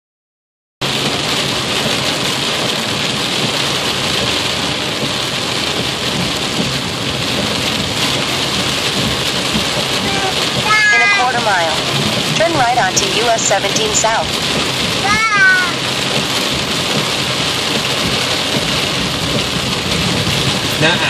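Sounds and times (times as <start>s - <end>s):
heavy rain on car windshield: 0.8s - 21.0s.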